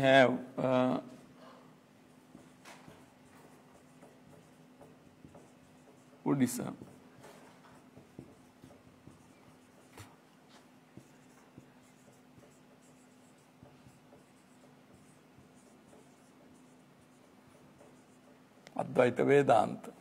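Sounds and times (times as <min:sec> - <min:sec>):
low steady hum: 0:00.0 - 0:19.0
marker pen writing on whiteboard: 0:02.0 - 0:19.0.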